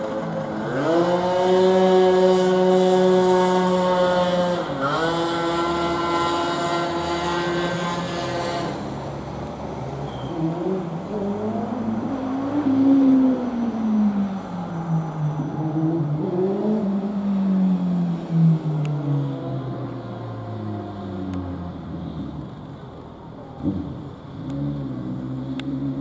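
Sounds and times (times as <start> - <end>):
lower engine note: 0.0 - 26.0.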